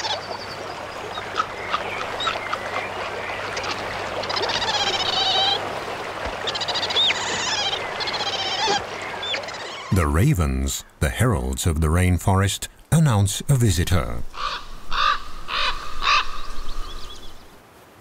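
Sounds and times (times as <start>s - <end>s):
ravens croaking: 0.0s - 17.5s.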